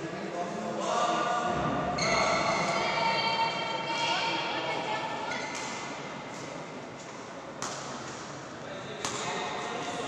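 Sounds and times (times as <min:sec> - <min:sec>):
background noise: 0:00.0 - 0:10.0.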